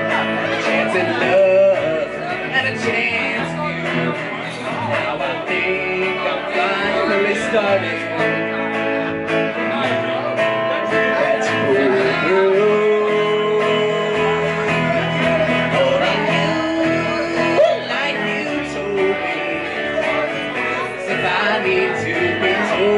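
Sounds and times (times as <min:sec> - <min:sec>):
acoustic guitar: 0:00.0 - 0:22.9
electric guitar: 0:00.0 - 0:22.9
upright bass: 0:00.0 - 0:22.9.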